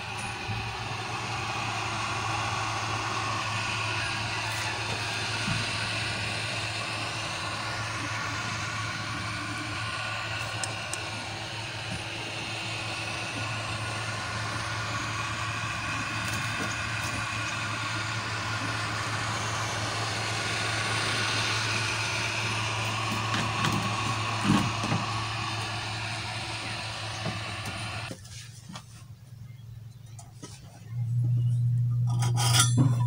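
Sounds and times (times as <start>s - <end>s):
blower fan whirring: 0.0s - 33.0s.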